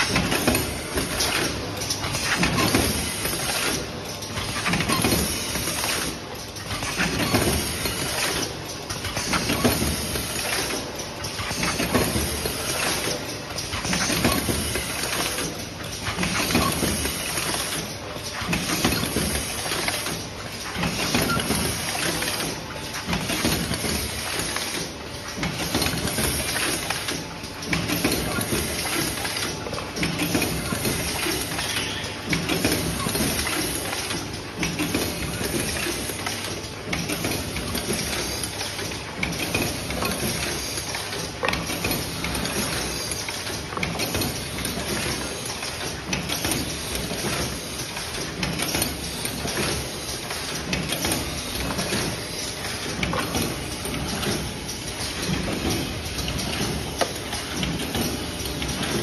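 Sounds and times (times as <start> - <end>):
machine clattering and hissing: 0.0 - 59.0.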